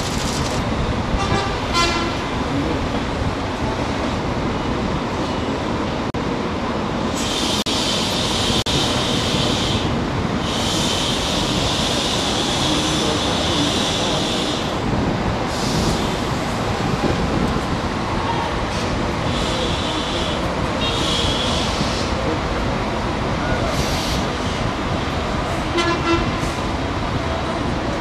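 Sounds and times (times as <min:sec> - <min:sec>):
city traffic noise: 0:00.0 - 0:28.0.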